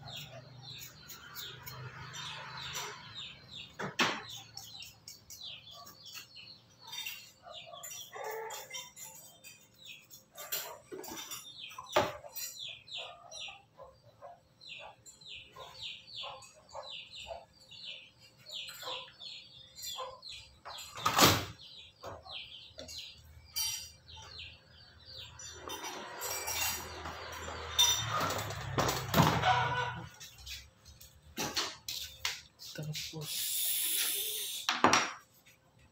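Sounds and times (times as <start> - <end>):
small birds chirping: 0.0 - 28.8, 29.4 - 34.7.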